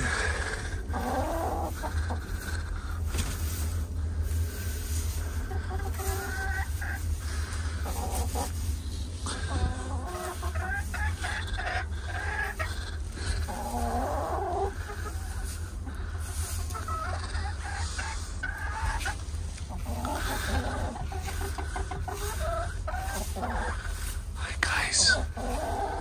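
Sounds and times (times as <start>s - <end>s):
hens clucking: 0.0s - 26.0s
steady low hum: 0.0s - 26.0s.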